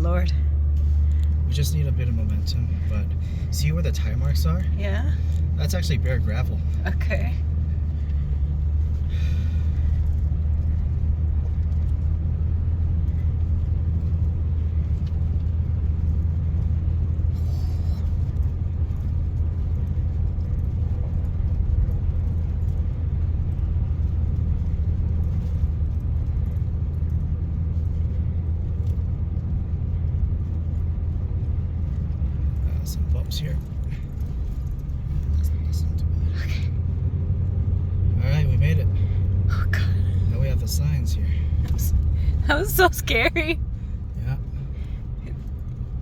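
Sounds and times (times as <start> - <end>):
truck engine and tyres rumbling: 0.0 - 46.0.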